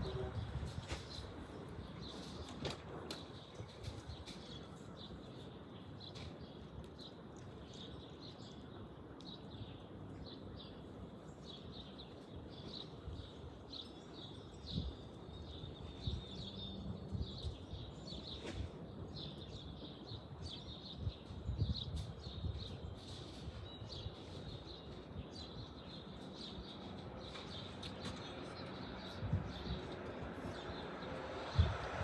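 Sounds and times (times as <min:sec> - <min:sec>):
small songbirds chirping: 0:00.0 - 0:32.0.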